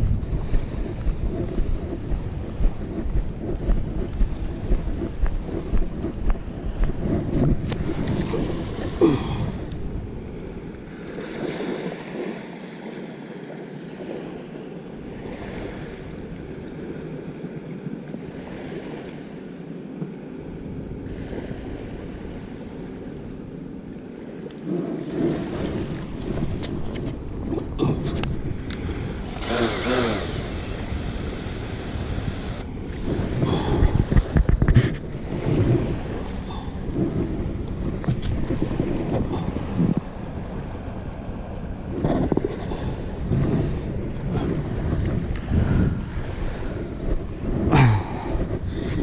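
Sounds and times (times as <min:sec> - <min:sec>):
ocean surf washing on beach: 0:00.0 - 0:49.0
wind rumbling on microphone: 0:00.0 - 0:49.0.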